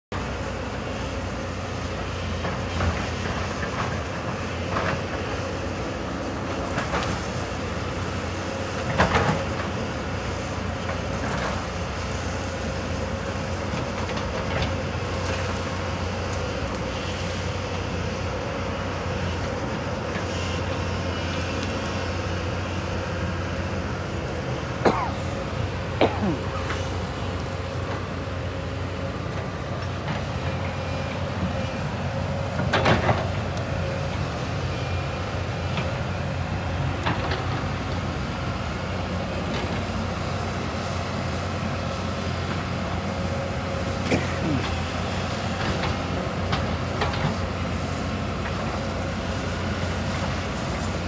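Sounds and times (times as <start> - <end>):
excavator engine humming: 0.1 - 51.0.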